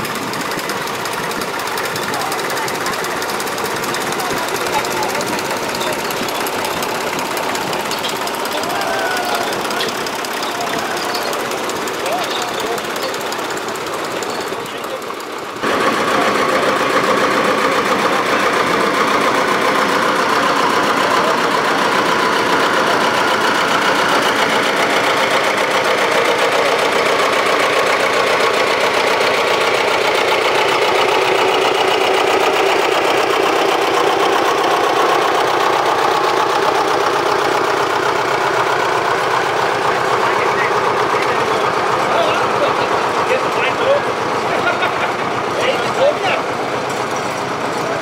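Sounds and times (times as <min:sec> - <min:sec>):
tractor engine knocking: 0:00.0 - 0:48.0.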